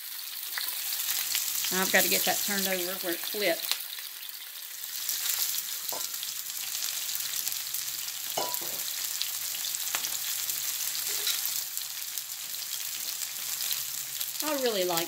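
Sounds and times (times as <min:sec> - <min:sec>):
sausages sizzling in oil: 0:00.0 - 0:15.0.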